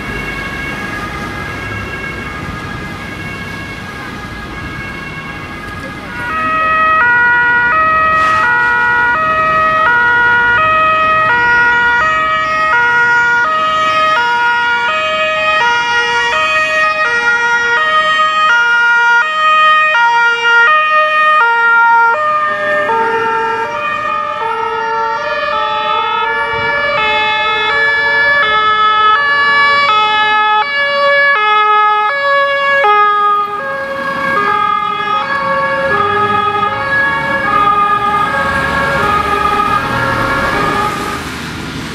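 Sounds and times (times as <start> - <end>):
two-tone fire engine sirens: 0.0 - 41.9.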